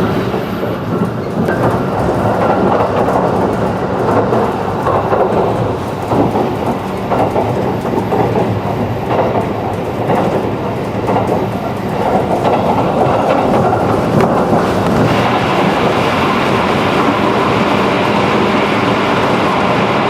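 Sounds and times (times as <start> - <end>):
rail joint clicks: 0.0 - 20.0
train wheels rumbling on rail: 0.0 - 20.0.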